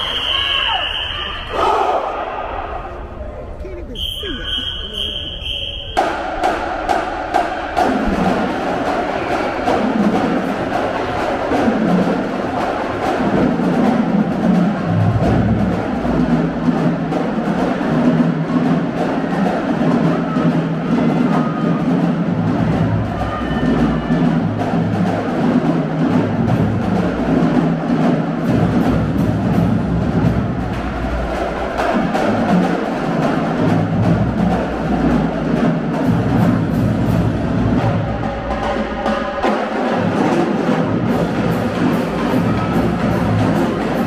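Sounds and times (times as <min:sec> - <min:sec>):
drumline beat: 0:03.0 - 0:44.0.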